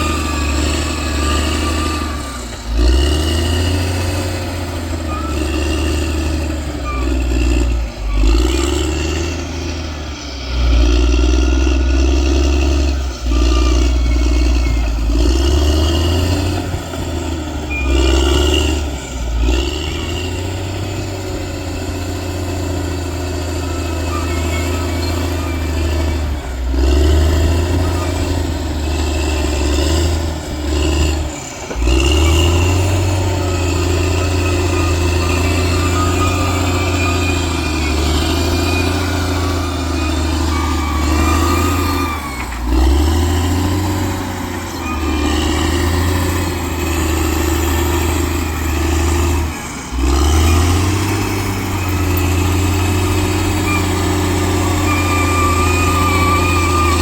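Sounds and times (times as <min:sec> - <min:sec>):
bulldozer diesel engine revving: 0:00.0 - 0:57.0.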